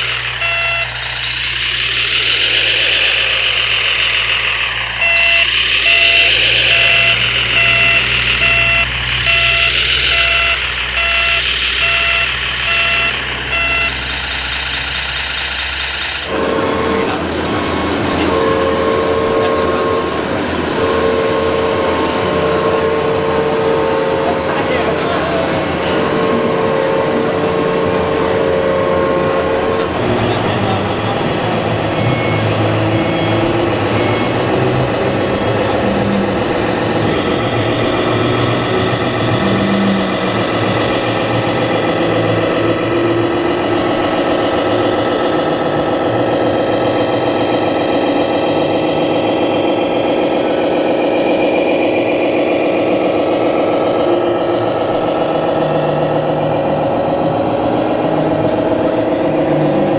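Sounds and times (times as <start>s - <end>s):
toy vehicle engines idling and revving: 0.0s - 59.9s.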